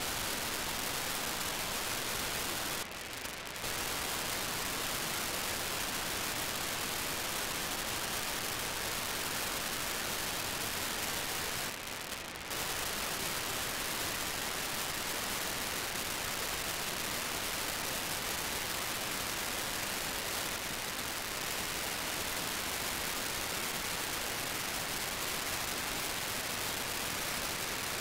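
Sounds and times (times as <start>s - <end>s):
radio receiver hiss: 0.0s - 28.0s.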